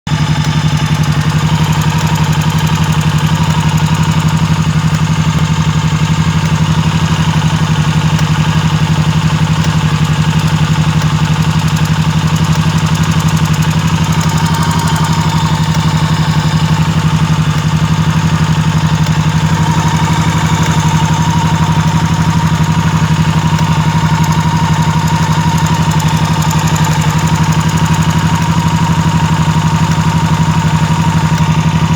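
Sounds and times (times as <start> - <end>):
engine knock: 0.1 - 31.9
motorcycle engine idling: 0.1 - 31.9.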